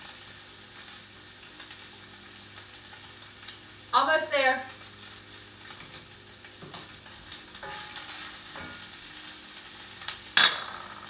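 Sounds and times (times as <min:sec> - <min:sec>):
bacon sizzling in a skillet: 0:00.0 - 0:11.0.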